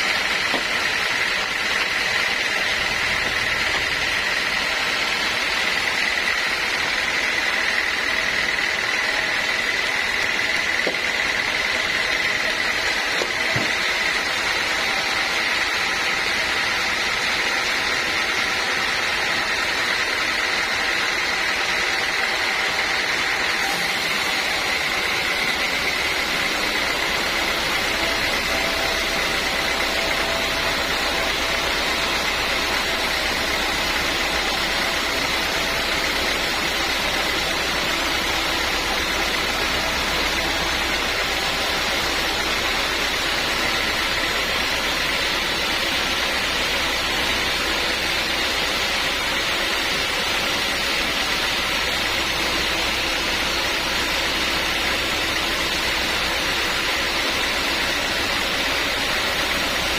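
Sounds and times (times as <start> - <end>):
sawmill machinery whine: 0.0 - 59.9.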